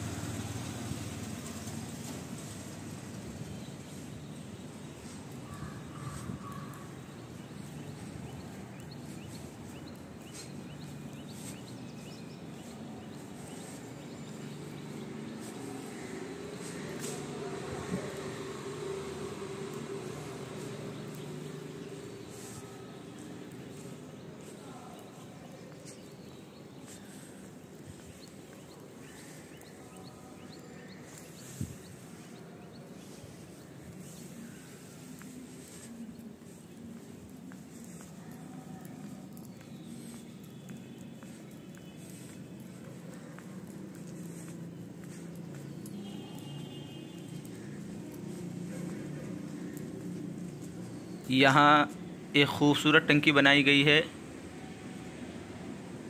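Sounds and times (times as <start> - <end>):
small birds chirping: 0.0 - 54.4.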